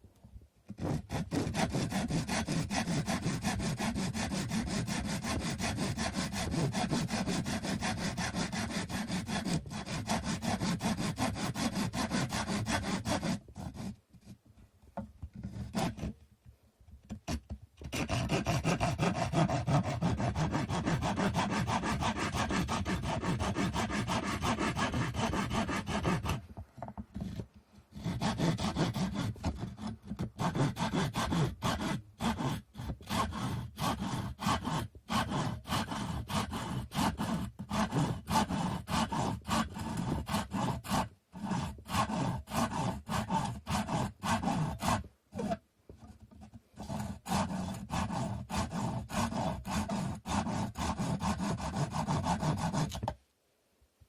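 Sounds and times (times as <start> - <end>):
hand saw cutting wood: 0.7 - 14.4, 15.3 - 16.2, 17.1 - 53.2.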